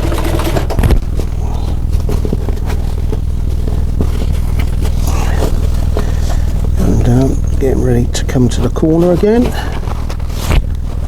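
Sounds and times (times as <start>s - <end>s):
sewing machine motor hum: 0.0s - 11.0s.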